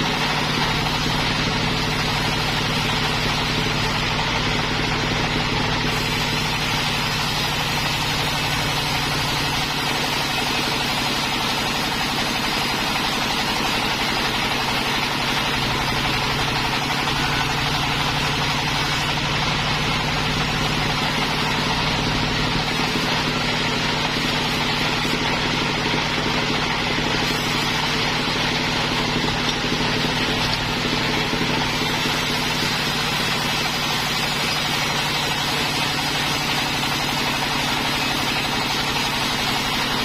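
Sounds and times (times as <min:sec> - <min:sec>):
sawmill machinery humming: 0:00.0 - 0:40.0.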